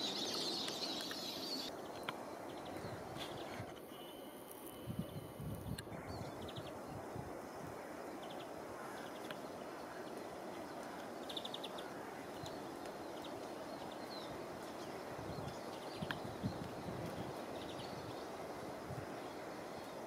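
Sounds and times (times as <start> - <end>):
small birds chirping: 0.0 - 7.0, 8.0 - 20.0.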